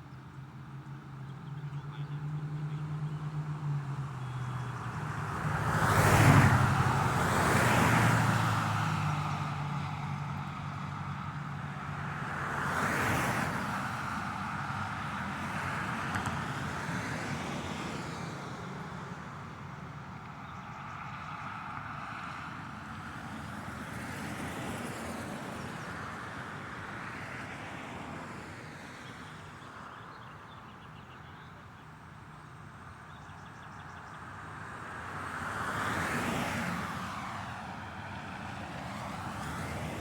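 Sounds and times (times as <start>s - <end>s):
vehicles passing: 0.3s - 40.0s.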